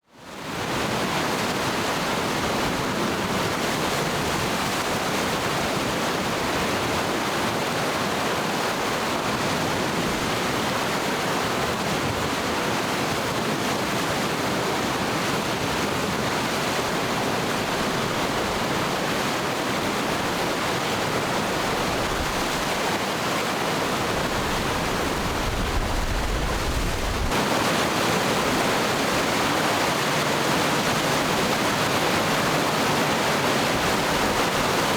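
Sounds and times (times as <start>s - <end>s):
whitewater rapids rushing: 0.5s - 34.9s.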